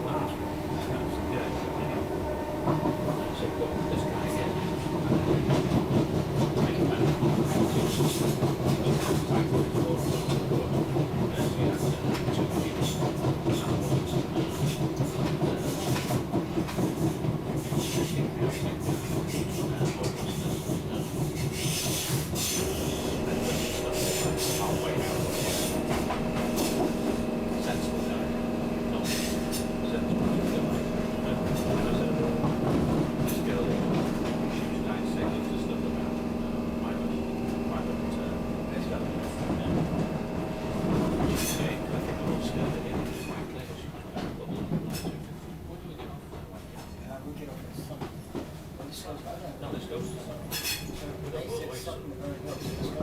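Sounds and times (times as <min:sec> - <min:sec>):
train rumble inside carriage: 0:00.0 - 0:53.0.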